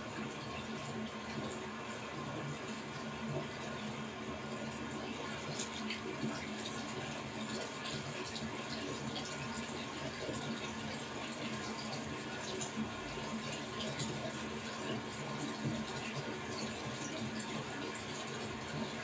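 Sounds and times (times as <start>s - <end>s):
water running with bubbling: 0.0s - 19.0s.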